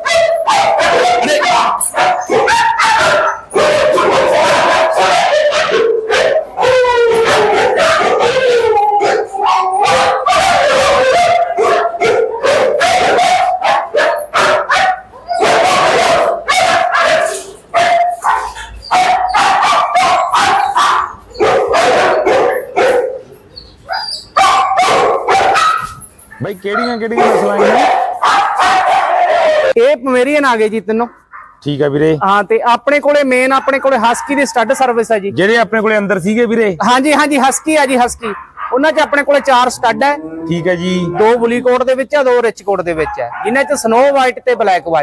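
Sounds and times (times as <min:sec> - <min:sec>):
dogs barking and howling: 0:00.0 - 0:29.8, 0:31.1 - 0:31.6, 0:33.1 - 0:35.9, 0:36.9 - 0:45.0.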